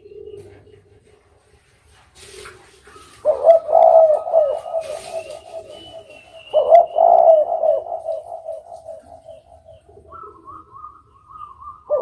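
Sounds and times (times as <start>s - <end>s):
dove cooing: 0.0s - 1.4s, 2.2s - 12.0s.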